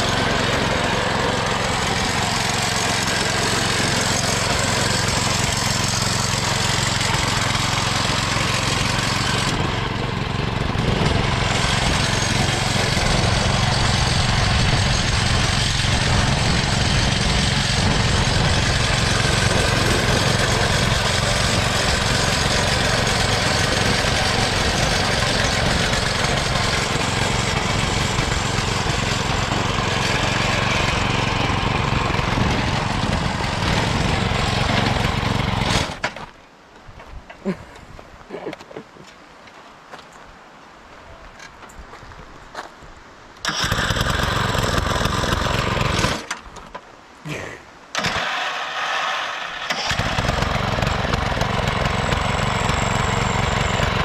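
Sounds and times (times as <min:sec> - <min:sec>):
small mower engine running: 0:00.0 - 0:36.2, 0:43.4 - 0:46.6, 0:47.9 - 0:54.0.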